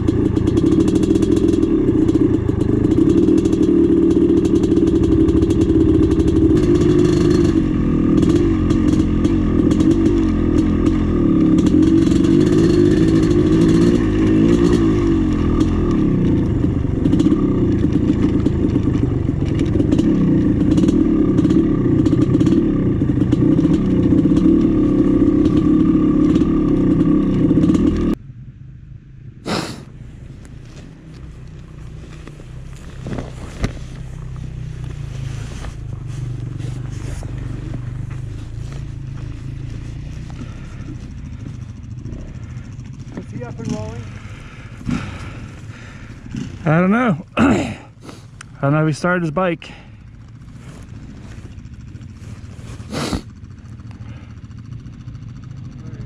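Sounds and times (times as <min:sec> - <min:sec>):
dirt bike engine running: 0:00.0 - 0:28.4, 0:29.3 - 0:56.0.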